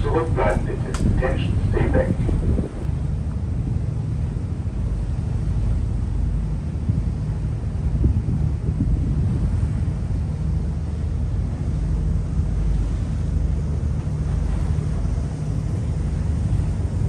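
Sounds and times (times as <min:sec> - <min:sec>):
ferry engine rumble: 0:00.0 - 0:17.0
wind buffeting microphone: 0:00.0 - 0:17.0.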